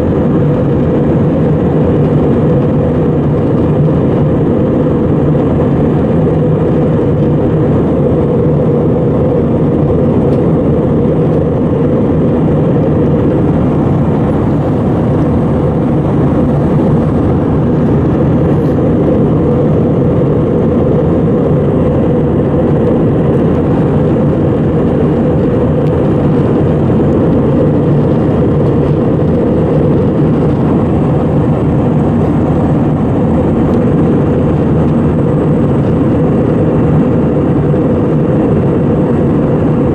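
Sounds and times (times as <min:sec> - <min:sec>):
jet engine and airflow roar: 0:00.0 - 0:39.9.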